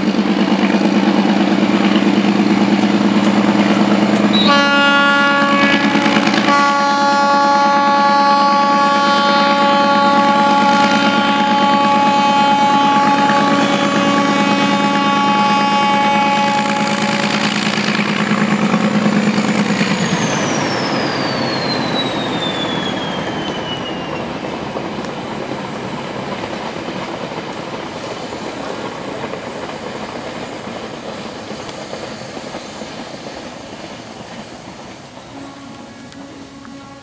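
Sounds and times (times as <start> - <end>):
diesel locomotive engine drone: 0.0 - 37.0
train wheels clattering over rails: 0.0 - 37.0.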